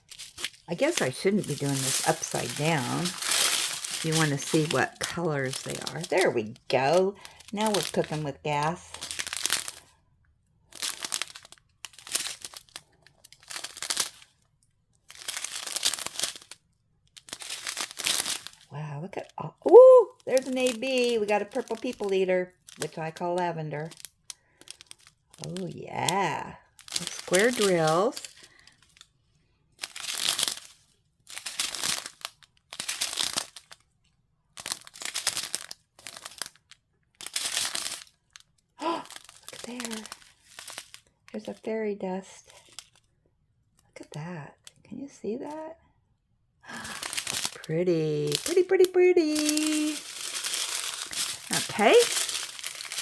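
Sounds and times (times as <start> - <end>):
plastic bags crinkling: 0.0 - 10.0, 10.6 - 41.7, 42.4 - 43.1, 46.7 - 53.0.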